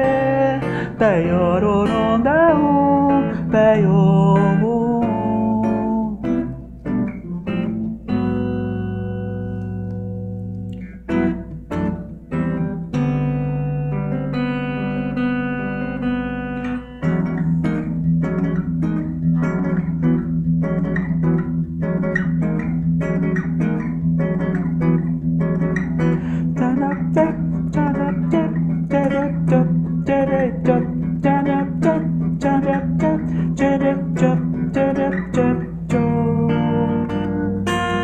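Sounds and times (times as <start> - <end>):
acoustic guitar with effects: 0.0 - 38.0.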